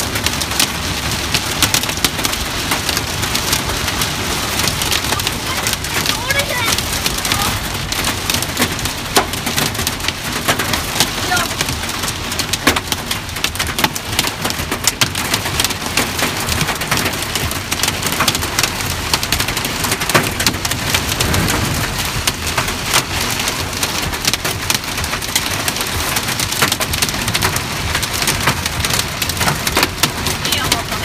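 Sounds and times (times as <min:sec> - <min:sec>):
heavy rain hissing: 0:00.0 - 0:13.3, 0:18.8 - 0:31.0
hailstones ticking on surface: 0:00.0 - 0:31.0.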